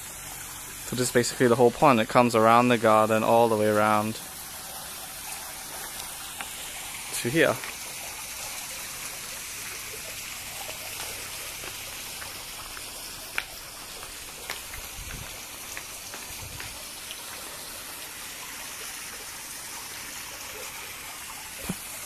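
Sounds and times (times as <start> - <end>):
running water hiss: 0.0 - 22.0.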